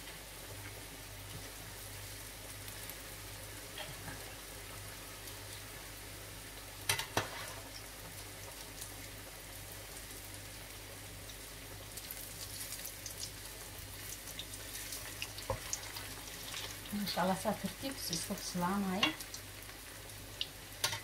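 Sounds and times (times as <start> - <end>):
deep-frying sizzle in oil: 0.0 - 21.0.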